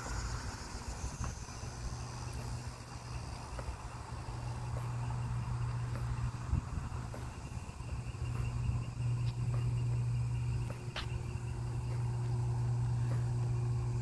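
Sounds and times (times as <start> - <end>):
faint insects chirping: 0.0 - 14.0
steady low hum: 0.0 - 14.0.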